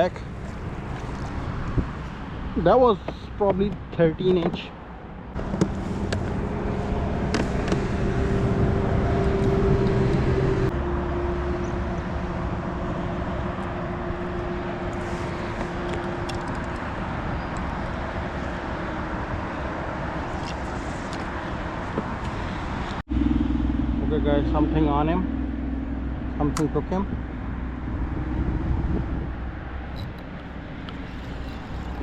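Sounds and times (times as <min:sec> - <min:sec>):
rushing background noise: 0:00.0 - 0:32.0
motor engine droning: 0:05.4 - 0:32.0.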